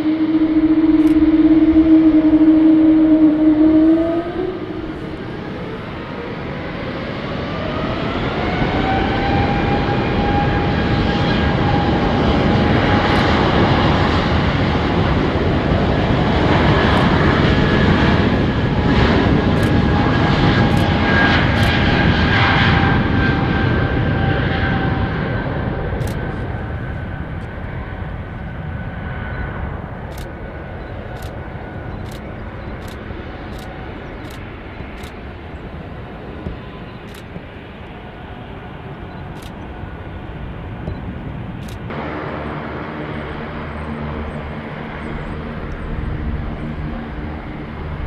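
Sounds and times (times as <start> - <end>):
jet engines spooling up: 0.0 - 48.0.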